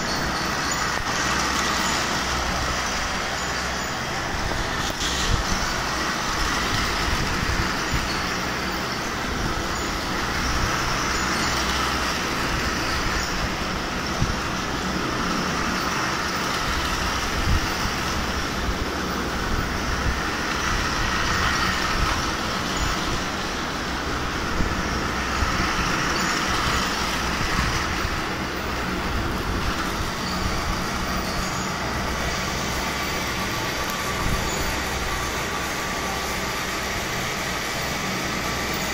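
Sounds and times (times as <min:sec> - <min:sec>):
toy train motors whirring: 0:00.0 - 0:38.9.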